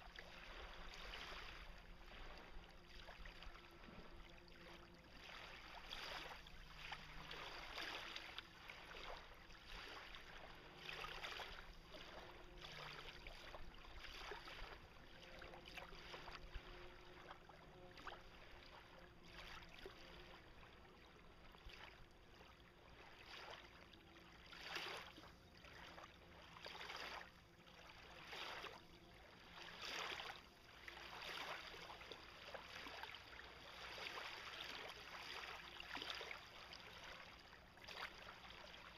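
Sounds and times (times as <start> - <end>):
faint water sloshing and splashing: 0.0 - 38.9.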